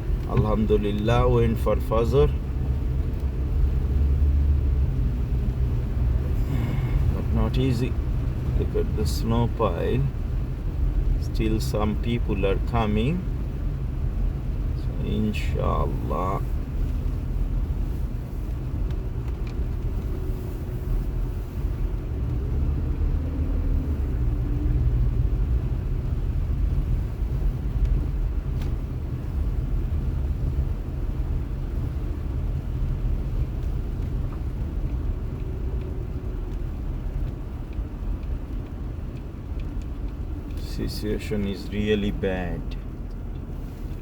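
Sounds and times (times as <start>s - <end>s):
car cabin engine and road noise: 0.0s - 44.0s.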